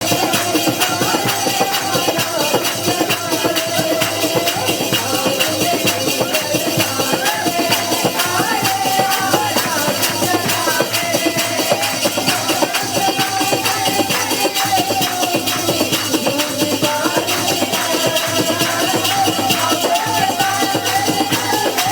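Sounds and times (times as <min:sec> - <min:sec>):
instrumental music with fast beat: 0:00.0 - 0:21.9.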